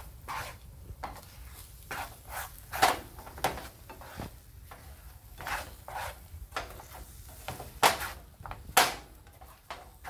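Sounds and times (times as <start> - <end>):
spatula scraping a skillet: 0.0 - 10.0.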